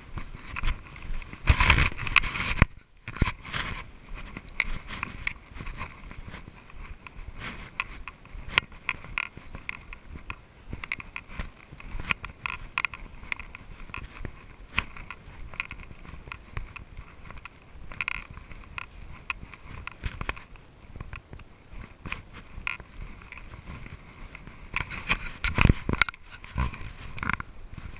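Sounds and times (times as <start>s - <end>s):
bike clicks and rattles: 0.0s - 27.9s
rumble of tyres and wind: 0.0s - 27.9s.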